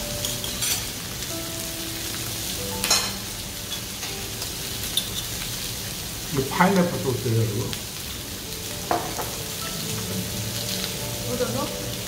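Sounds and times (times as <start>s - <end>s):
meat sizzling on a grill pan: 0.0s - 12.0s.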